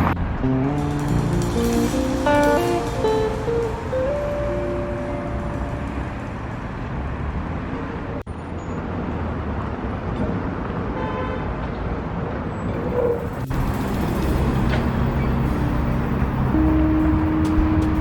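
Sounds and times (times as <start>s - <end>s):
rumble of passing cars: 0.0s - 18.0s.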